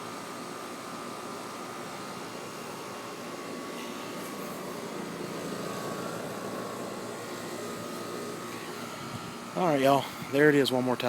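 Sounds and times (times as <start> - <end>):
faint compressor hum: 0.0 - 11.0
fan air rushing: 0.0 - 11.0.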